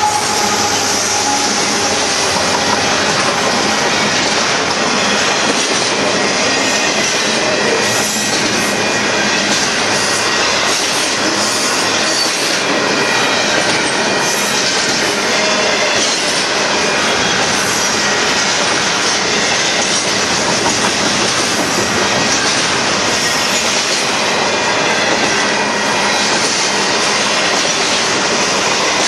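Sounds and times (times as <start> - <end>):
freight train wheels rolling: 0.0 - 29.0.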